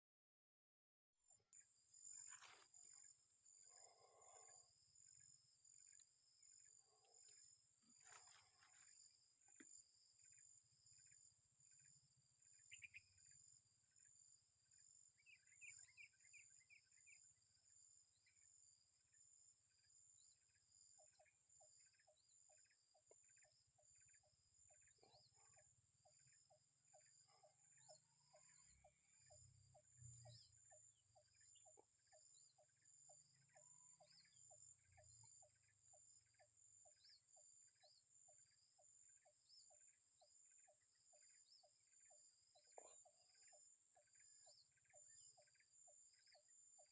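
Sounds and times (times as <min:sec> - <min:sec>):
lower cricket chirp: 0:01.2 - 0:46.9
insect drone: 0:01.3 - 0:46.9.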